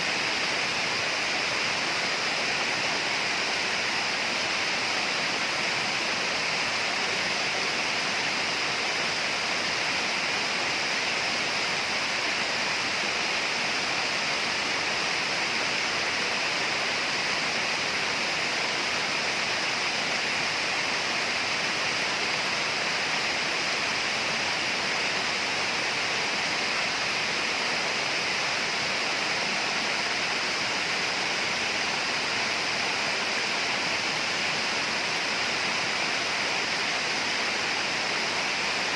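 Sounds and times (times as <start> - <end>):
rainforest ambience hiss: 0.0 - 38.9.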